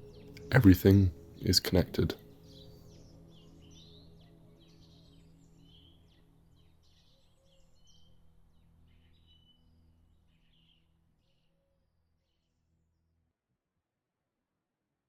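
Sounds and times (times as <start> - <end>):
faint birdsong chirps and trills: 0.0 - 13.2.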